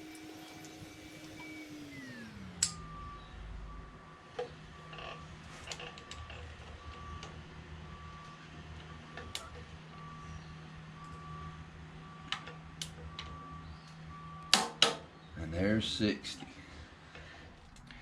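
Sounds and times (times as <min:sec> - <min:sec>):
reversing alarm beeping: 0:00.1 - 0:14.6.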